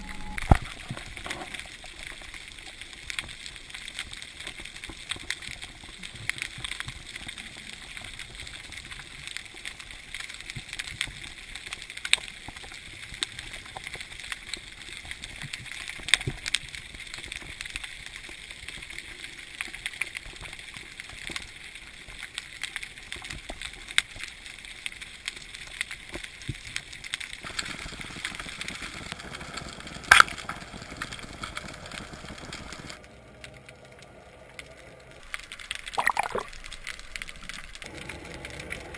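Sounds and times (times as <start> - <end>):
crackling clicks: 0.0 - 38.9.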